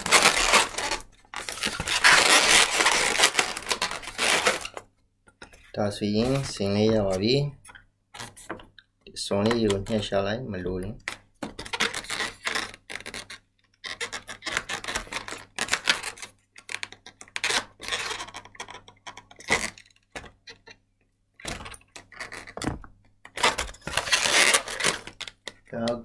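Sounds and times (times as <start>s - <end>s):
rubber balloon squeaking: 0.0s - 4.9s, 5.5s - 8.5s, 11.0s - 20.8s, 21.4s - 25.6s.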